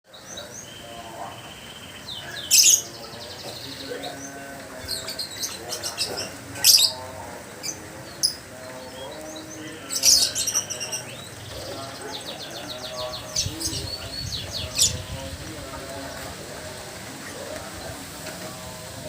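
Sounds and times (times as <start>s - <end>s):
faint bird chirping: 0.1s - 19.0s.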